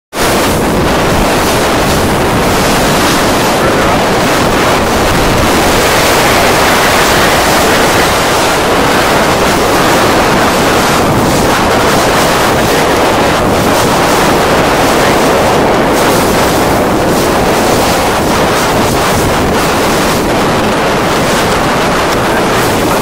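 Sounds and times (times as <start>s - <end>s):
rushing sea water: 0.1s - 23.0s
wind buffeting microphone: 0.1s - 23.0s.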